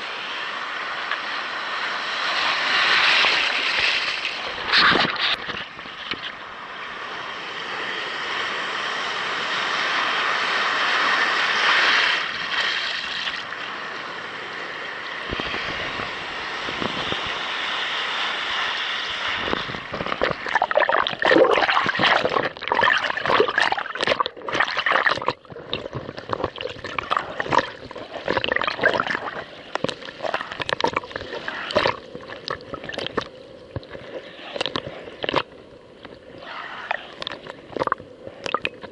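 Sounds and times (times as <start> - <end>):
small waves slapping hull: 0.0 - 6.4, 7.7 - 14.5, 15.1 - 38.9
seawater rushing around kayak: 0.0 - 38.9.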